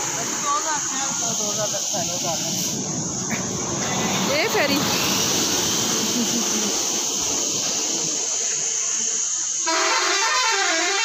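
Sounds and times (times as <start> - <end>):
outdoor rushing noise: 0.0 - 9.6.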